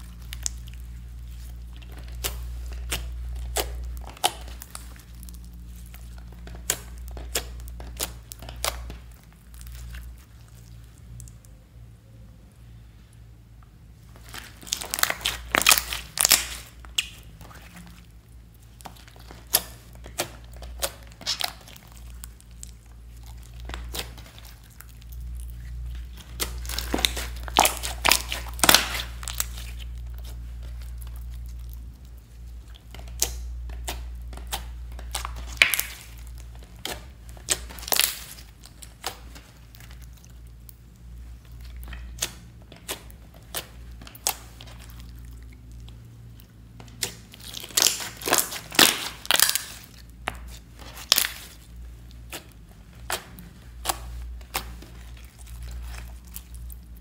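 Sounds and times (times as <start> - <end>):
slime squishing with sticky clicks: 0.0 - 12.3, 13.1 - 57.0
faint low hum: 0.0 - 57.0.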